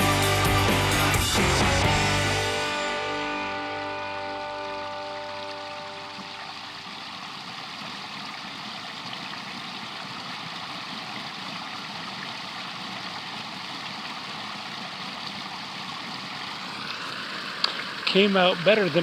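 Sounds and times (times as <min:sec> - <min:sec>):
water running over rocks: 0:03.3 - 0:19.0.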